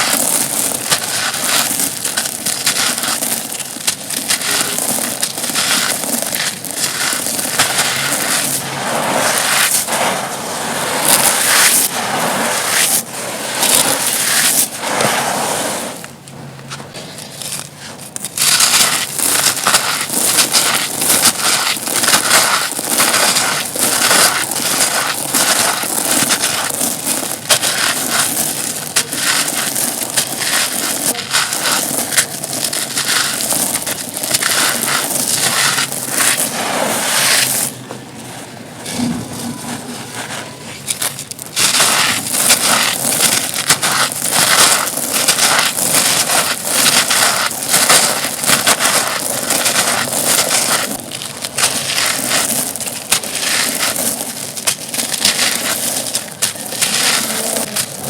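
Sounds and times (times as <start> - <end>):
stone chunks crunching by hand: 0.0 - 12.0, 16.9 - 37.8, 40.8 - 58.0.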